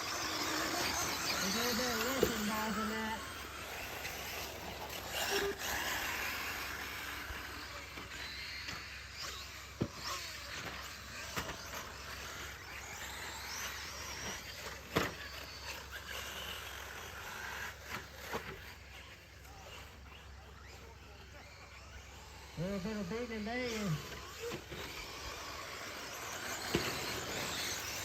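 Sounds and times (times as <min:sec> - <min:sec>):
electric motor whines: 0:00.0 - 0:28.0.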